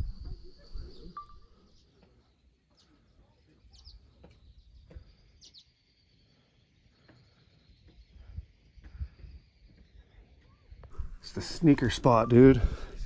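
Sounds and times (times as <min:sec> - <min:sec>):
faint high bird chirps: 0:00.0 - 0:12.9.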